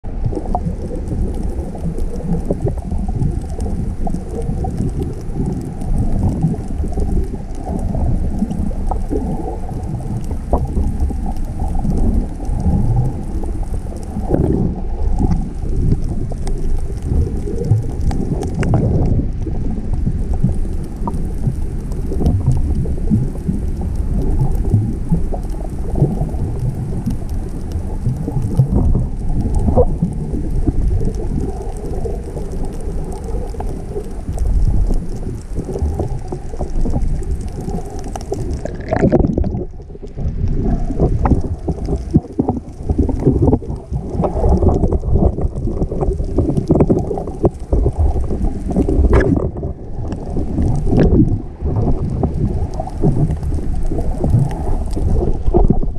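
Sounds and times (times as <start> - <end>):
faint clicks and pops: 0.0 - 55.9
muffled underwater rumble: 0.0 - 55.9.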